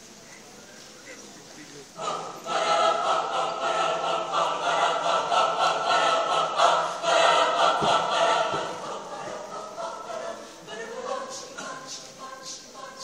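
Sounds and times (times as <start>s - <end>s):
mixed choir singing a cappella: 1.6s - 13.0s.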